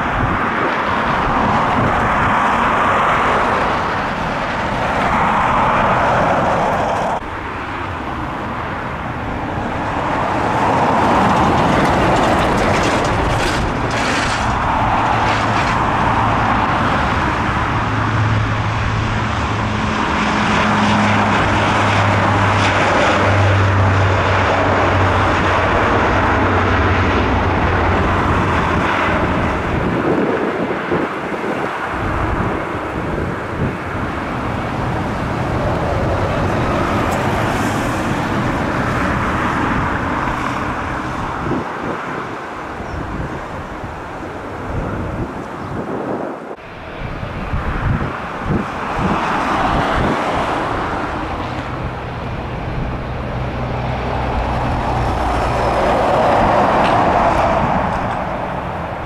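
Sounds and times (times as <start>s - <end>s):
distant jet airliner roar: 0.0s - 59.0s.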